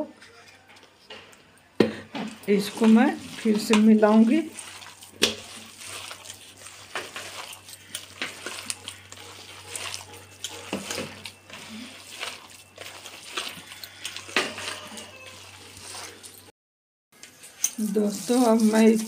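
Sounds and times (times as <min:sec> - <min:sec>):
hand squelching wet vegetable mix: 0:02.3 - 0:16.5, 0:17.3 - 0:19.0.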